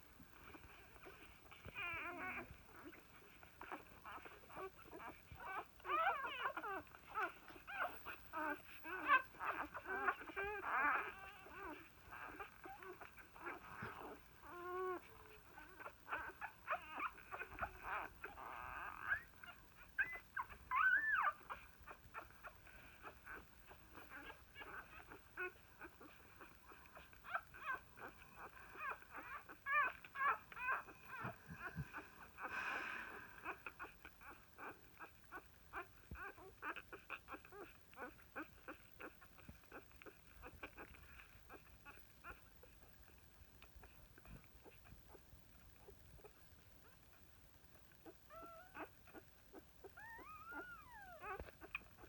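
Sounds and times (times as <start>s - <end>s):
newborn puppies crying: 0.3s - 52.0s.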